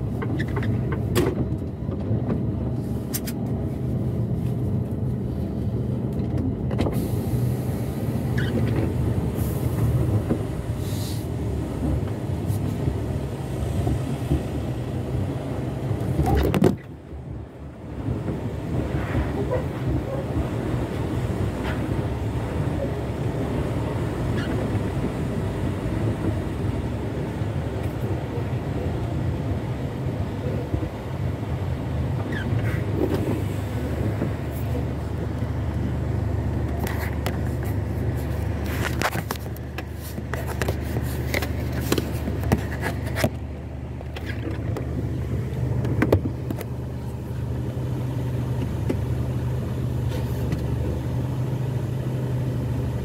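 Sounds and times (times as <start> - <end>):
truck engine humming: 0.0 - 53.0.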